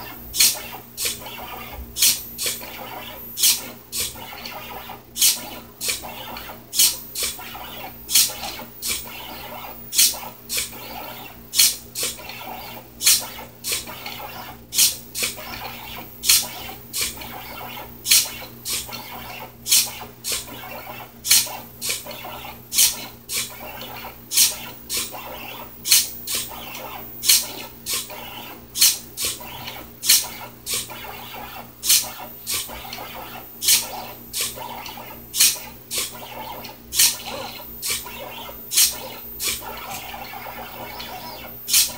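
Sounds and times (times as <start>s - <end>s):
servo clicks: 0.0s - 41.9s
stepper motors humming: 0.0s - 41.9s.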